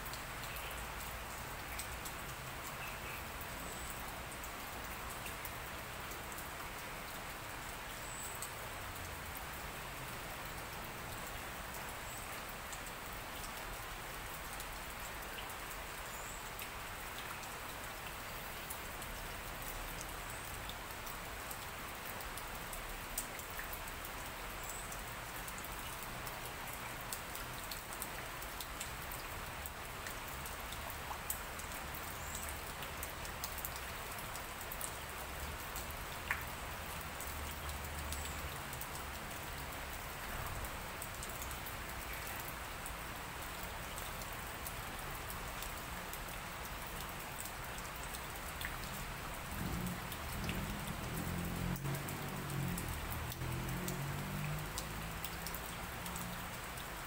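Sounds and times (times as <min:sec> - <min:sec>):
light rain on leaves: 0:00.0 - 0:57.0
raindrops ticking: 0:00.0 - 0:57.0.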